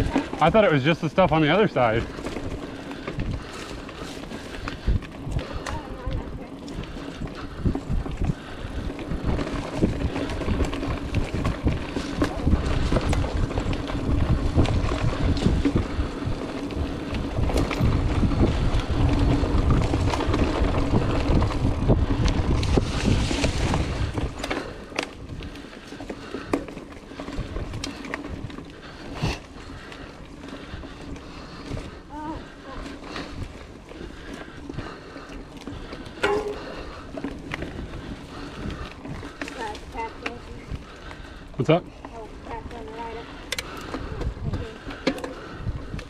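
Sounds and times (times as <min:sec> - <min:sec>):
bike rattling: 0:00.0 - 0:46.0
bike tyres on dirt and leaves: 0:00.0 - 0:46.0
sharp clicks over bumps: 0:00.0 - 0:46.0
wind buffeting microphone: 0:00.0 - 0:46.0.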